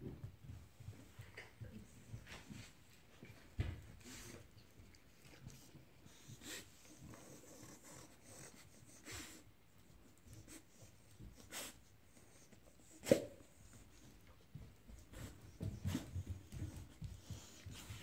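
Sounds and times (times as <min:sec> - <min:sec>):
dogs sniffing and snuffling: 0:00.0 - 0:18.0.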